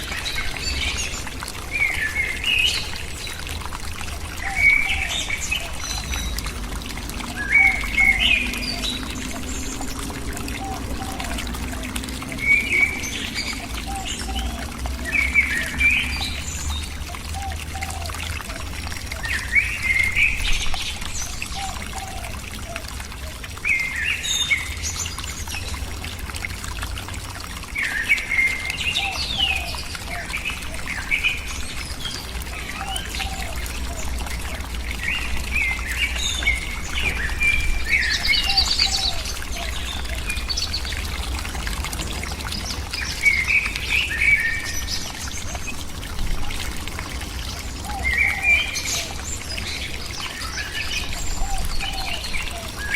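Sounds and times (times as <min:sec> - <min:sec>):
songbird singing: 0:04.0 - 0:25.6, 0:27.7 - 0:52.9.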